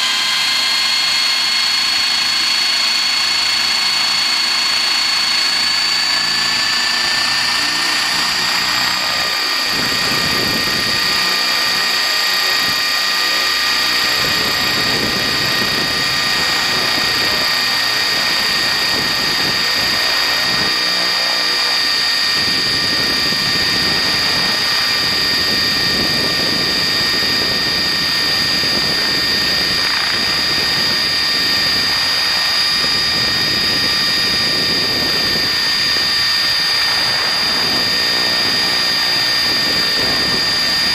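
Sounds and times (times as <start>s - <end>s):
model aircraft motor whine: 0.0s - 40.9s.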